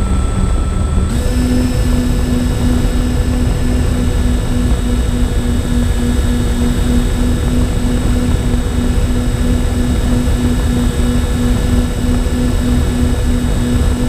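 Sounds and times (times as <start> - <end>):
model plane motors humming: 0.0 - 14.0
rushing wind noise: 0.2 - 14.0.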